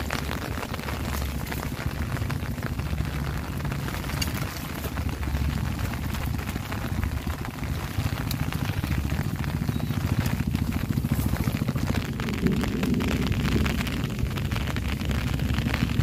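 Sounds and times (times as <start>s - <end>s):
low unsteady rumble: 0.0s - 16.0s
rain pattering: 0.0s - 16.0s.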